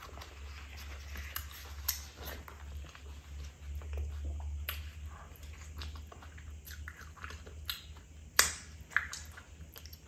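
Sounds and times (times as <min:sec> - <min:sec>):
low steady hum: 0:00.0 - 0:10.0
moist chewing: 0:00.0 - 0:10.0.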